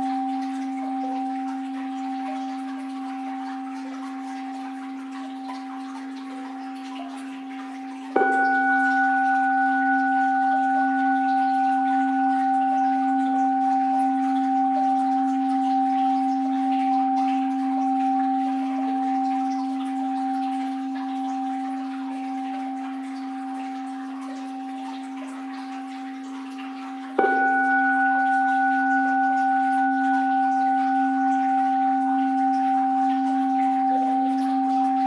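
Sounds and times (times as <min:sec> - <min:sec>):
bowl bell ringing: 0:00.0 - 0:35.0.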